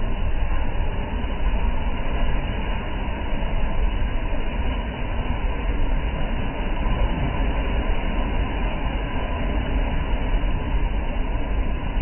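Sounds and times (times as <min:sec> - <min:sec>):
deep rumble of surf: 0:00.0 - 0:12.0.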